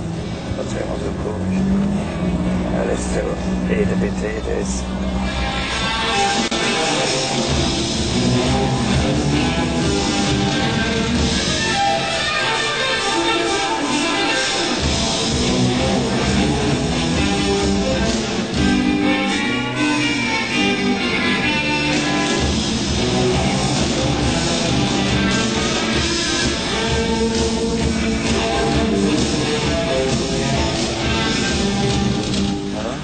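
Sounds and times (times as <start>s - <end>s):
band playing: 0.0s - 33.0s
electric guitar: 0.0s - 33.0s.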